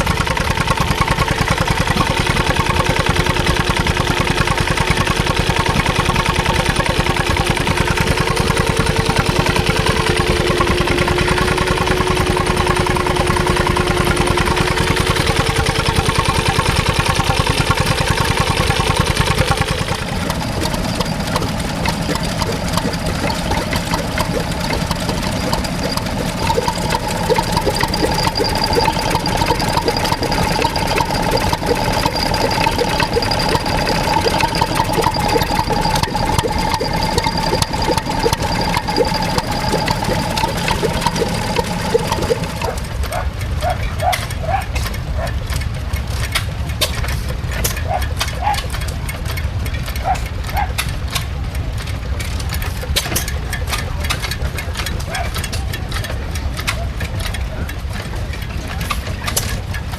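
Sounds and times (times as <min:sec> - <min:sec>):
stationary engines running: 0:00.0 - 0:59.9.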